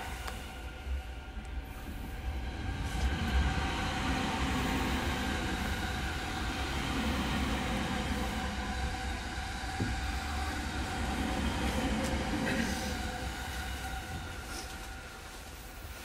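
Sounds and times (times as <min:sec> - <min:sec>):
electric train interior hum: 0:00.0 - 0:16.0.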